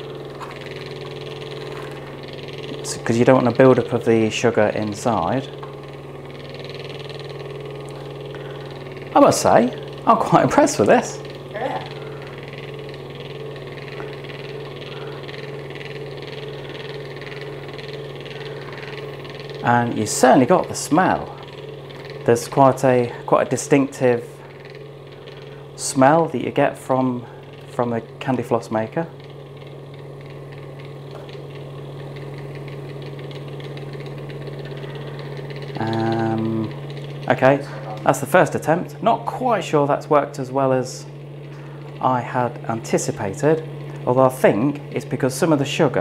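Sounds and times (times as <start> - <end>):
candy floss maker humming: 0.0 - 46.0.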